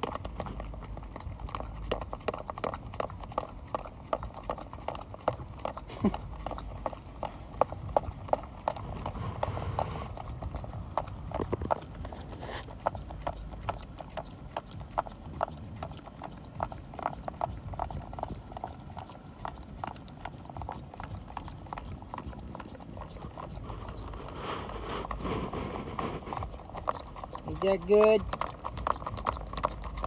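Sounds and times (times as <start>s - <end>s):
puppy lapping: 0.0s - 30.0s.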